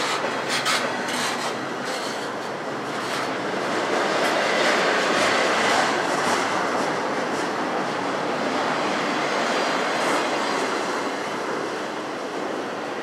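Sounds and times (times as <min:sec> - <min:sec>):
steel wheels rumbling on rail: 0:00.0 - 0:13.0.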